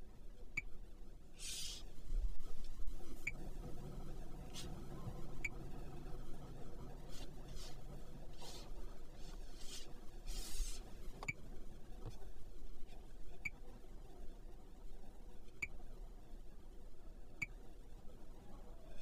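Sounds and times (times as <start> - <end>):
low cabin hum: 0.0 - 19.0.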